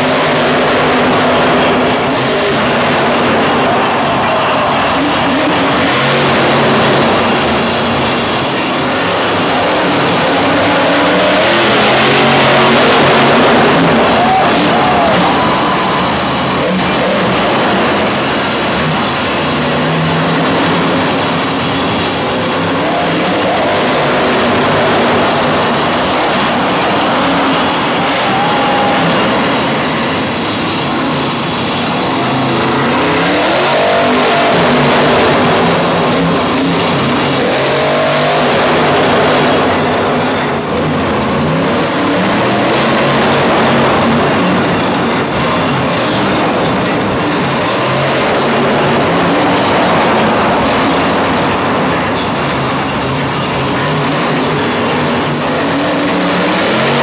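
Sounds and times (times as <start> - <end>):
loud steady wash of noise: 0.0 - 57.0
monster truck engine revving: 0.0 - 57.0.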